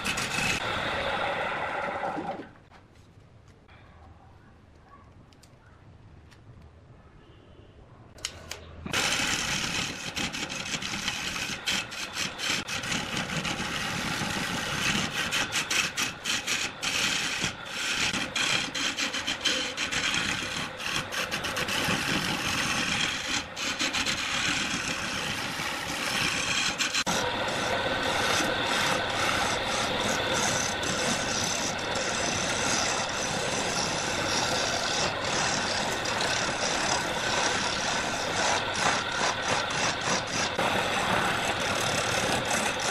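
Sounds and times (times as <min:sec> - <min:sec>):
wood lathe tool shearing wood: 0:00.0 - 0:02.4, 0:08.9 - 0:42.9.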